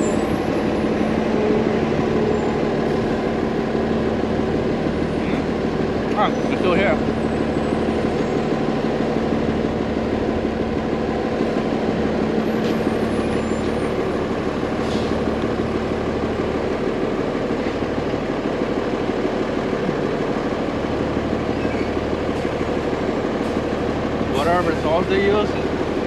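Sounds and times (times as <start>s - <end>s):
large vehicle engine running: 0.0s - 26.0s.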